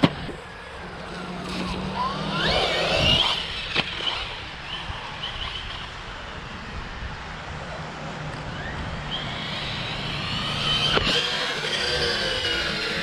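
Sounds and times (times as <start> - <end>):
electric motor whining: 0.0 - 6.0, 8.4 - 13.0.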